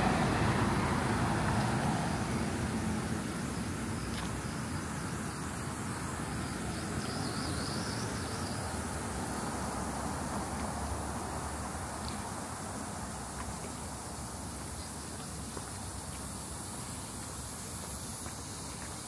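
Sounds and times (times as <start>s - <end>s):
distant road traffic hum: 0.0s - 19.0s
faint high insect trill: 0.0s - 19.0s.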